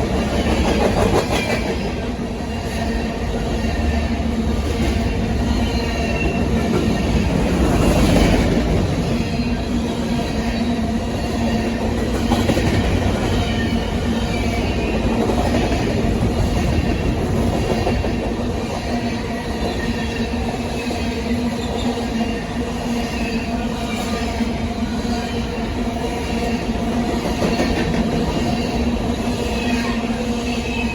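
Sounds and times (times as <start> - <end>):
train wheels rumbling and clattering: 0.0 - 30.9.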